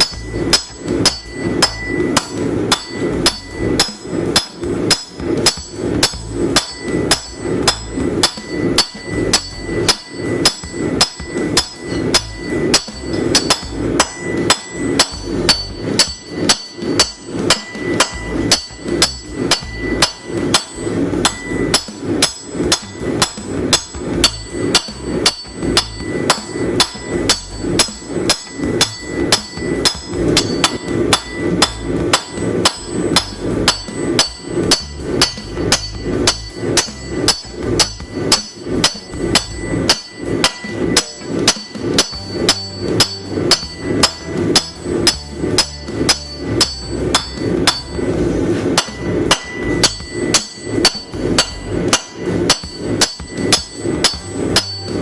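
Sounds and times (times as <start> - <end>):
hammer striking steel on anvil: 0.0 - 55.0.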